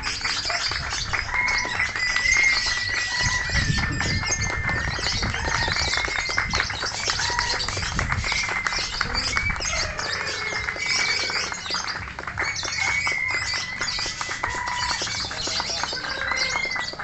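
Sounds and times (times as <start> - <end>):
lovebirds chirping and squawking: 0.0 - 17.0
whistled bird notes: 0.3 - 17.0.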